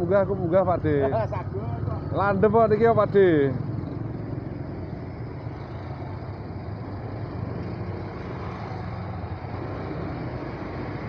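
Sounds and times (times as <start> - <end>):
traffic engines idling: 0.0 - 11.0.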